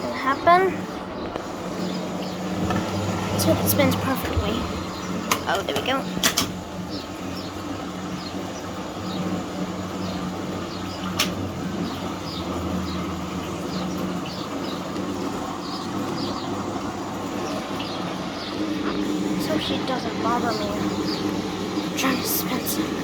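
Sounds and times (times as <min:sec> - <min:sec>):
washing machine spinning hum: 0:00.0 - 0:23.0.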